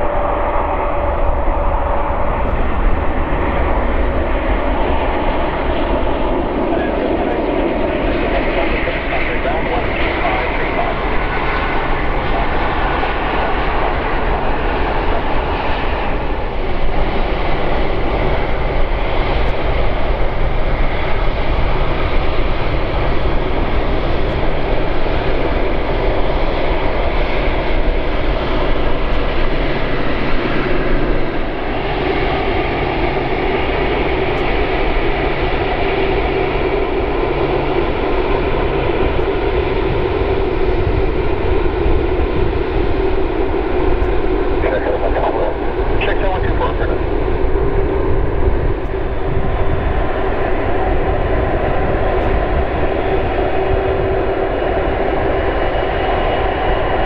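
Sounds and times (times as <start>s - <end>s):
jet engine noise: 0.0s - 57.0s.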